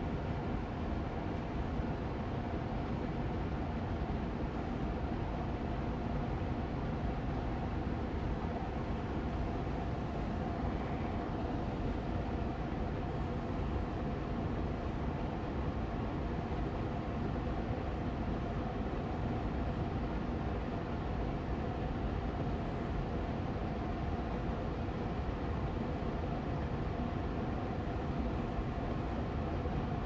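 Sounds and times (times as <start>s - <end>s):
air purifier fan running: 0.0s - 30.0s.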